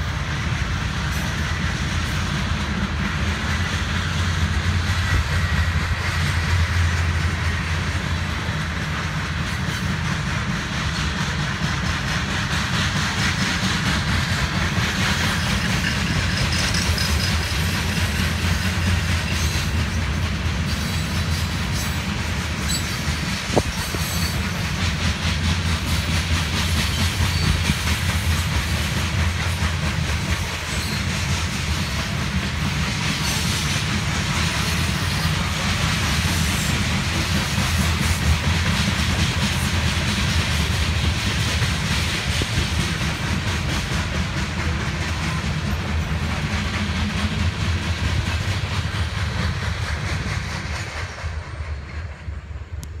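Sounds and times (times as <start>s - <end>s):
train wheels rolling on track: 0.0s - 53.0s.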